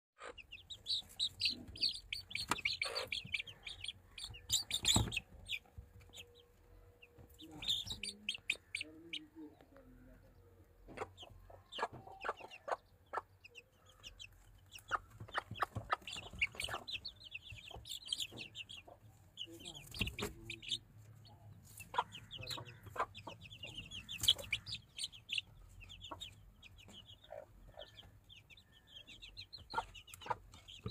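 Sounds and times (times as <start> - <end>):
chicks chirping and clucking: 0.2 - 30.9.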